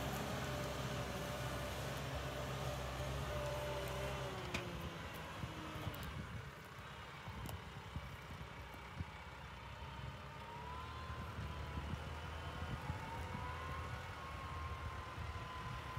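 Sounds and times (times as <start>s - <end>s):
tractor engine rumbling: 0.0s - 15.9s.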